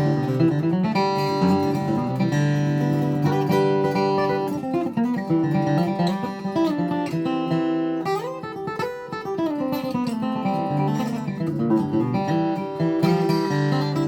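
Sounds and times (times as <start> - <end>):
acoustic guitar flatpicking: 0.0 - 14.0.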